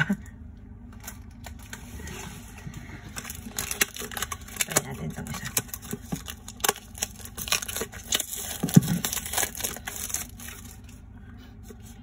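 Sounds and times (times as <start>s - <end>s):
plastic wrap crinkling and tearing: 0.9s - 11.0s.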